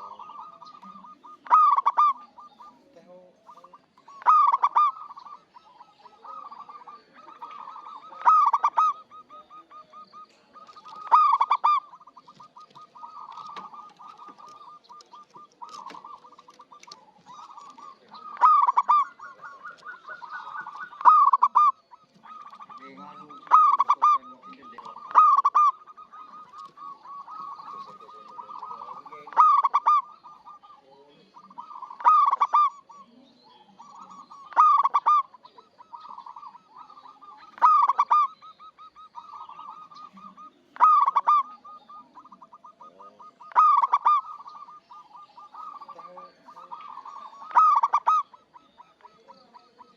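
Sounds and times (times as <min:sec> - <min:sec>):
dove cooing: 0:00.0 - 0:49.9.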